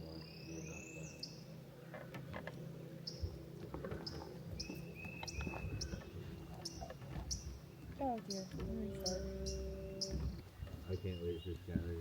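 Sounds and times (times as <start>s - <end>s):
birds chirping: 0.0s - 12.0s
low steady rumble: 0.0s - 12.0s.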